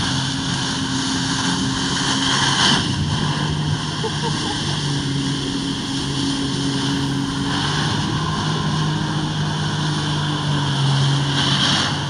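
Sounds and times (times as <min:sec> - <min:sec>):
jet ski engine drone: 0:00.0 - 0:12.0
water rushing hiss: 0:00.0 - 0:12.0.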